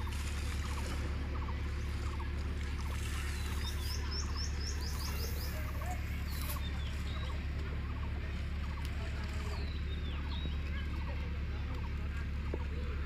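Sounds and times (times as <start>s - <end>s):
birds calling: 0.0s - 13.0s
steady low rumble: 0.0s - 13.0s.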